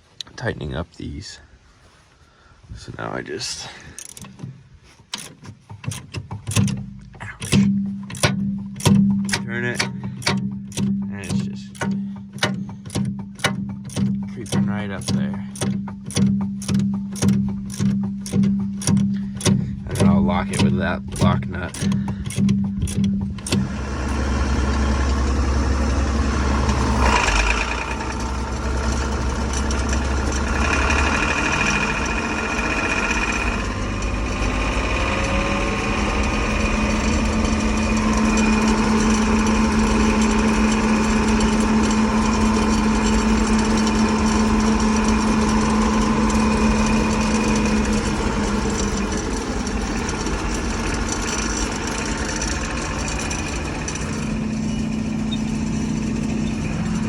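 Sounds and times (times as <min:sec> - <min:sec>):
combine engine running: 0:03.0 - 0:57.0.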